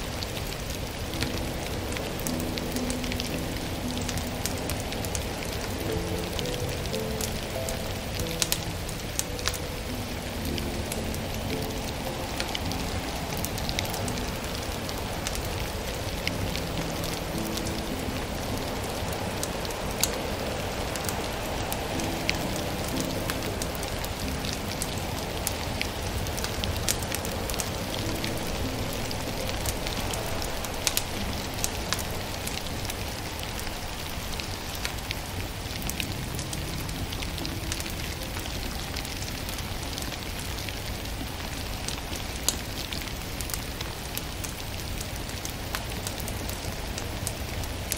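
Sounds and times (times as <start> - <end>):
steady hiss: 0.0 - 47.9
wood fire crackling and popping: 0.5 - 47.9.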